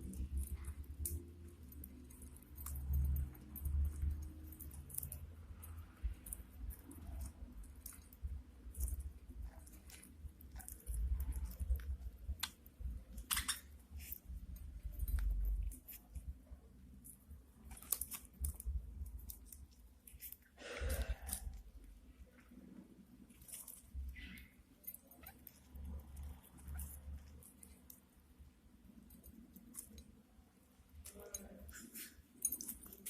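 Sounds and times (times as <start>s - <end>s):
rustling: 0.0s - 33.0s.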